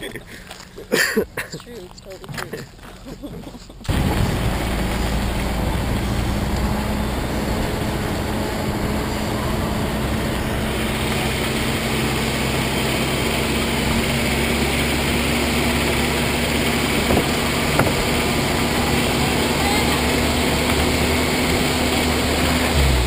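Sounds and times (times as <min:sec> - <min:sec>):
car engine hum: 0:00.0 - 0:23.0
tyre and road noise: 0:00.0 - 0:23.0.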